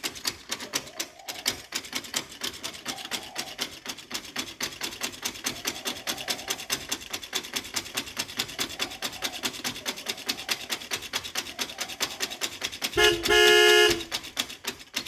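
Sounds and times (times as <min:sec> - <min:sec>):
rasping strokes on wood: 0:00.0 - 0:15.0.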